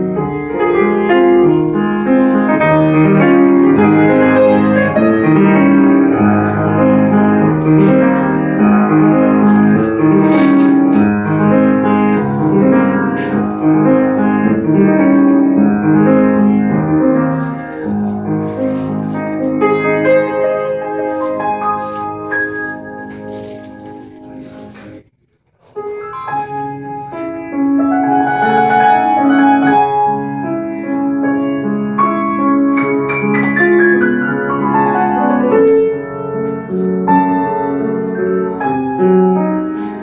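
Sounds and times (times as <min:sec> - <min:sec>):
solo grand piano: 0:00.0 - 0:25.0, 0:25.7 - 0:40.0.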